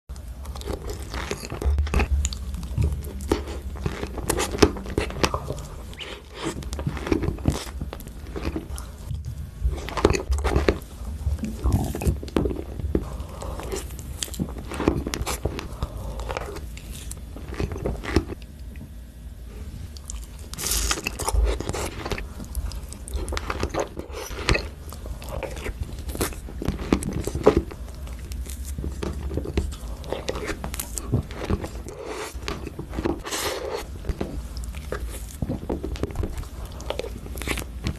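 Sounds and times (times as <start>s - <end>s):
person chewing crunchy food: 0.1s - 18.9s, 19.5s - 37.9s
steady low hum: 0.1s - 37.9s.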